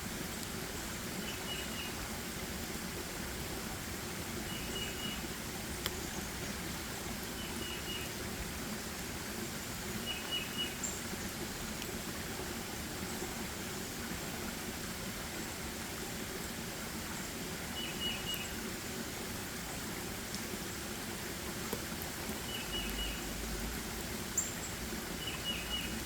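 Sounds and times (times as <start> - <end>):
forest background rush: 0.0 - 26.0.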